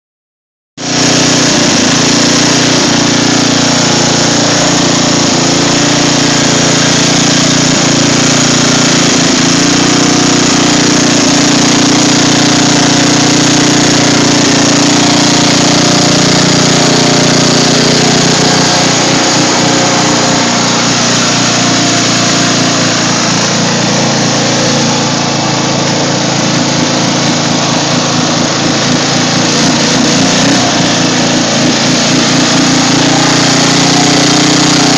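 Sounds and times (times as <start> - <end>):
driving through mud and water: 0.8 - 34.9
riding lawn mower engine: 0.8 - 34.9.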